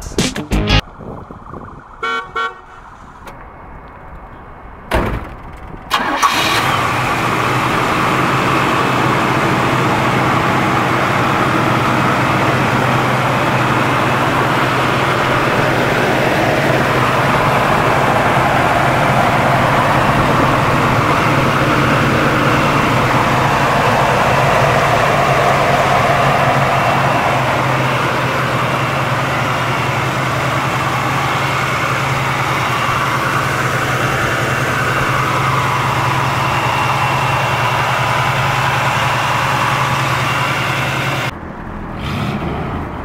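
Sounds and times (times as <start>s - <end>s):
car engine starting and idling: 0.0s - 43.0s.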